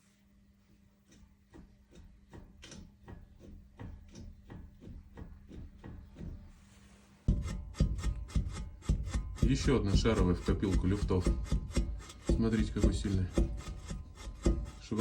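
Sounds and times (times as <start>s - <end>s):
ball joint knocking: 1.0s - 6.6s, 7.3s - 15.0s.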